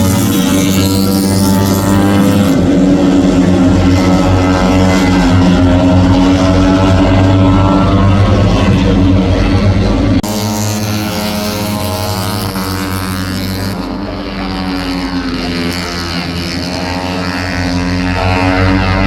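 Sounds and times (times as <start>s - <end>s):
racing motorcycles revving: 0.0s - 19.0s.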